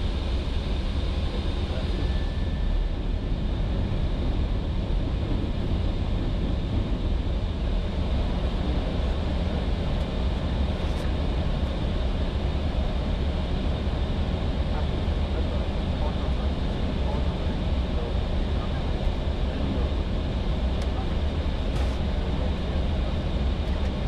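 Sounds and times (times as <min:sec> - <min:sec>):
aircraft engine rumble: 0:00.0 - 0:24.0.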